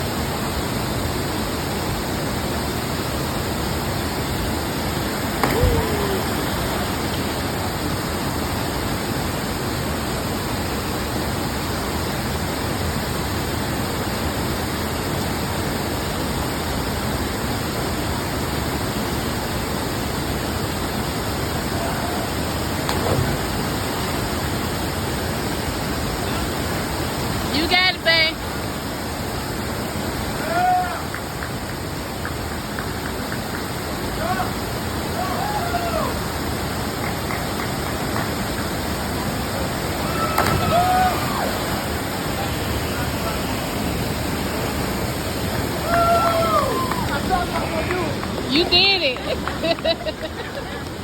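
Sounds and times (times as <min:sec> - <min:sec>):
rushing water: 0:00.0 - 0:51.0.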